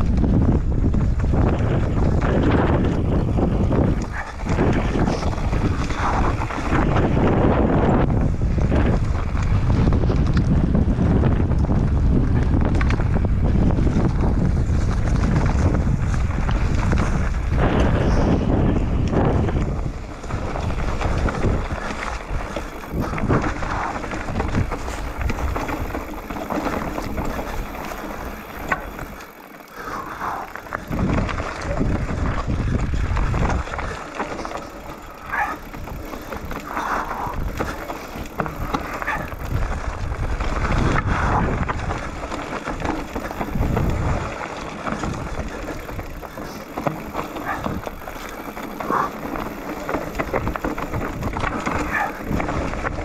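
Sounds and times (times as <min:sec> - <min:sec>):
bike rattling: 0:00.0 - 0:53.0
bike tyres crunching over gravel: 0:00.0 - 0:53.0
wind rushing on microphone: 0:00.0 - 0:53.0.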